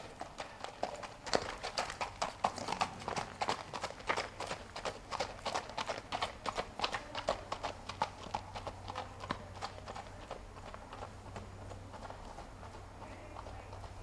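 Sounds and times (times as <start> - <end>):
hoofbeats on hard ground: 0.0 - 14.0.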